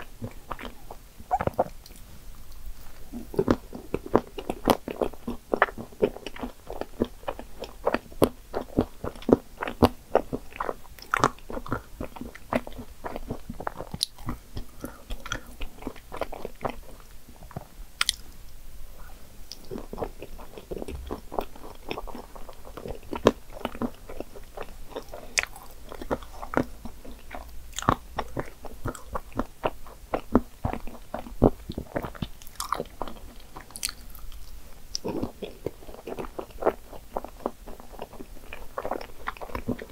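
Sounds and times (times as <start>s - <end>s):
chewing and mouth smacks: 0.0s - 18.3s, 19.5s - 39.9s.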